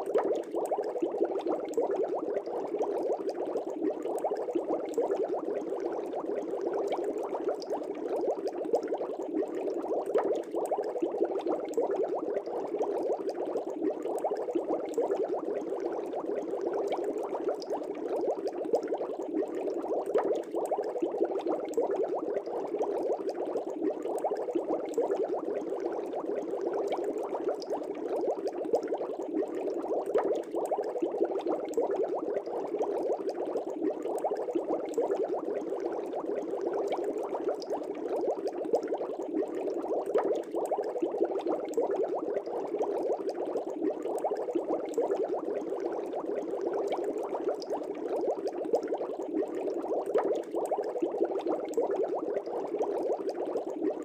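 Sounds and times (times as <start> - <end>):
aquarium air bubbles popping: 0.0 - 54.0.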